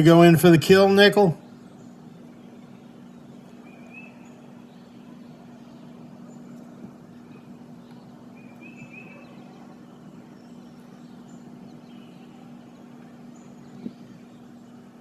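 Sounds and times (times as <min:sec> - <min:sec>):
low background hum: 0:00.0 - 0:15.0
faint bird chirps: 0:01.4 - 0:15.0.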